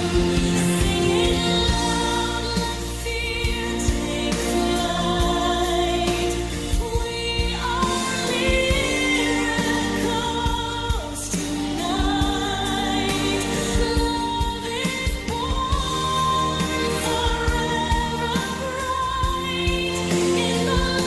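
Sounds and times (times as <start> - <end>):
pop backing with steady beat: 0.0 - 21.0.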